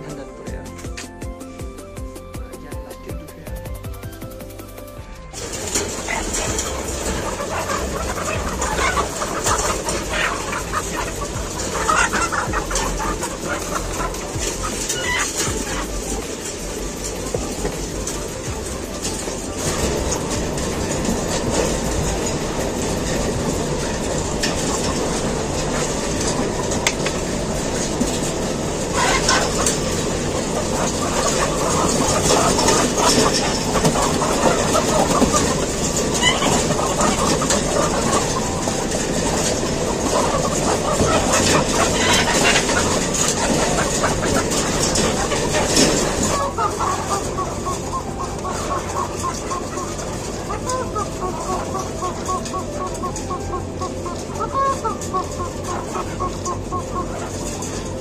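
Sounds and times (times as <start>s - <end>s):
hens clucking: 0.0s - 58.0s
machinery rattling: 0.0s - 58.0s.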